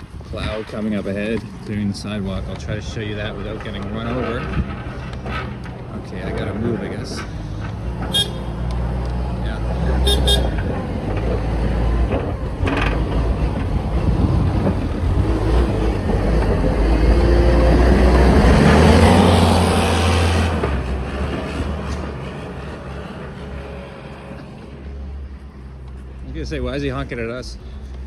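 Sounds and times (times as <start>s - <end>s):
snowplow engine passing: 0.0s - 28.0s.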